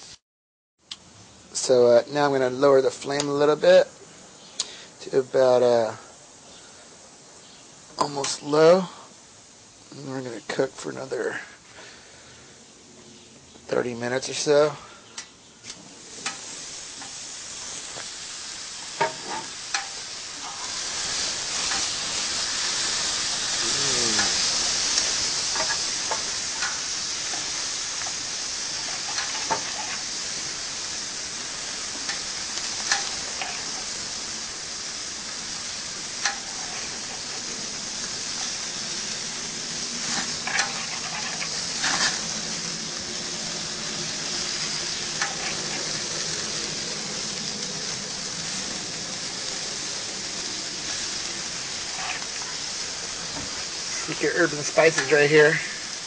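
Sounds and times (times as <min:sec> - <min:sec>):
meat sizzling on a grill: 0:00.0 - 0:00.2, 0:00.9 - 0:56.0
fat crackling and popping: 0:04.4 - 0:05.6, 0:07.8 - 0:08.8, 0:12.8 - 0:56.0.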